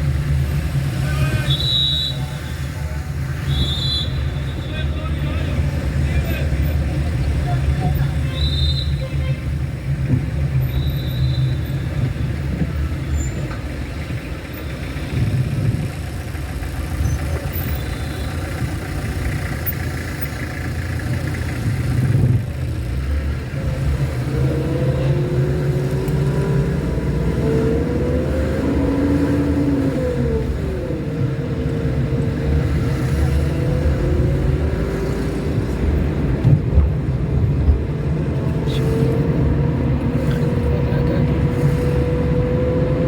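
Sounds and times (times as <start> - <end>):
car engine and tyres rumbling: 0.0 - 43.0.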